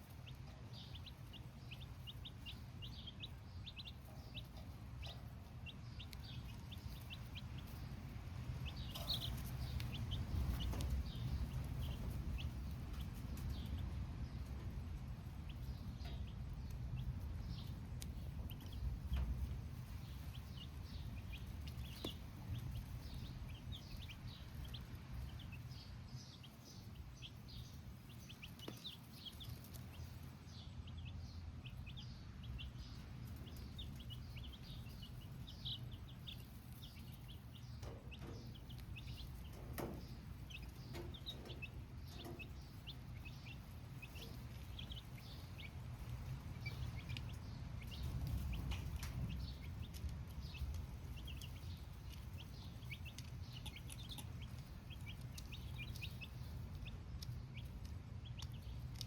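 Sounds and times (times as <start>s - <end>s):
baby chicks cheeping: 0.0s - 59.0s
low steady rumble: 0.0s - 59.0s.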